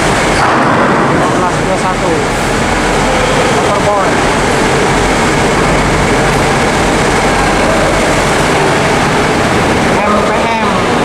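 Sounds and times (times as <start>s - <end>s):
ship diesel engines din: 0.0s - 11.0s
bus engines idling: 1.3s - 11.0s.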